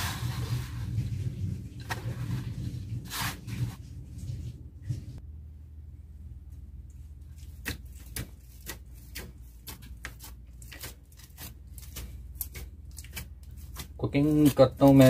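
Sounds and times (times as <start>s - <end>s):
dough kneaded on metal tray: 0.0s - 5.2s, 7.0s - 15.0s.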